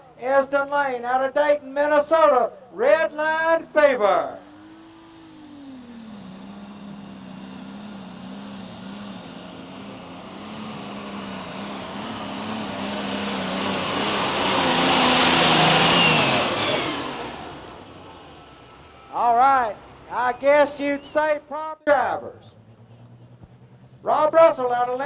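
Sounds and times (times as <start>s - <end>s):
tractor engine running hard: 2.8s - 21.4s, 22.4s - 25.0s.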